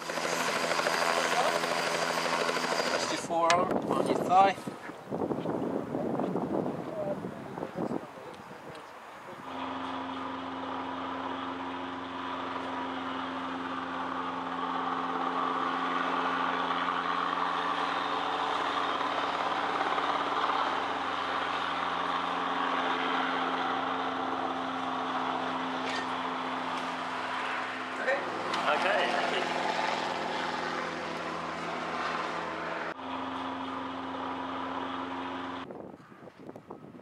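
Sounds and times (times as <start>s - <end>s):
helicopter engine and rotors: 0.0s - 37.0s.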